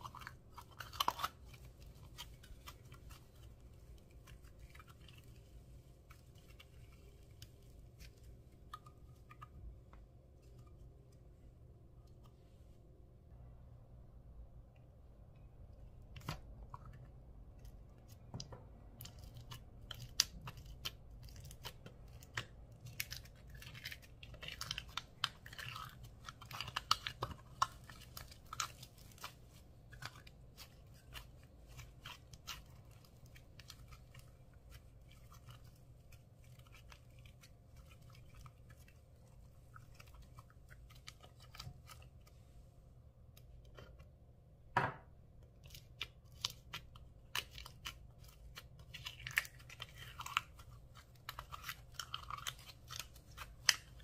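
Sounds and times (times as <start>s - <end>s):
hands squishing slime: 0.0s - 11.2s, 16.0s - 42.6s, 45.5s - 54.0s.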